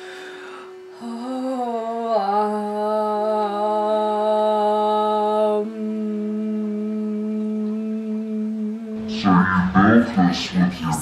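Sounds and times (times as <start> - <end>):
meditative humming: 0.0 - 11.0.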